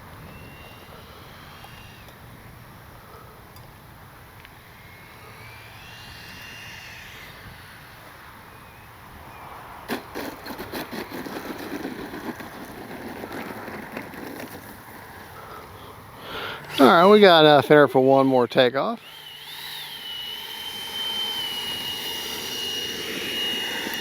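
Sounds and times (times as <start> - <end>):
electric ducted fan whining: 0.0 - 24.0.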